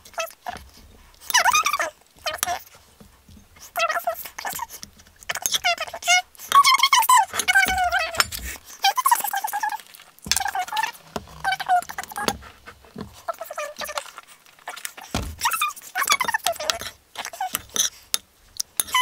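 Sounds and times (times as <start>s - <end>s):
spoon squeaking in bowl: 1.2s - 2.7s, 3.7s - 18.2s, 18.8s - 19.0s.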